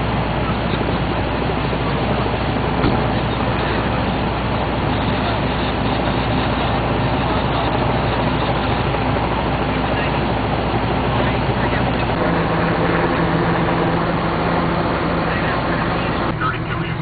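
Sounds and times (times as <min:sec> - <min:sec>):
low steady drone: 0:00.0 - 0:17.0
road traffic: 0:00.0 - 0:17.0.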